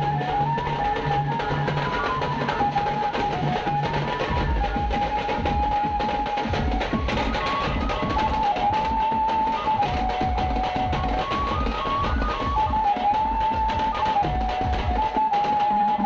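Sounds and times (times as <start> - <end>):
drums beaten in fast rhythm: 0.0 - 16.0.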